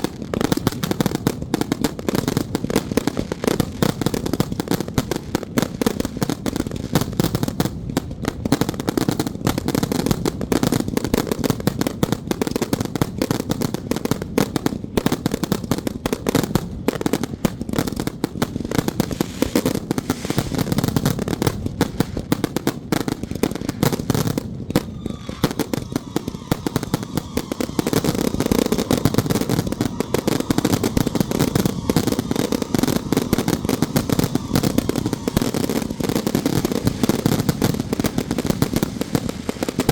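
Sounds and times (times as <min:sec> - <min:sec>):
firecrackers rapid popping: 0:00.0 - 0:39.9.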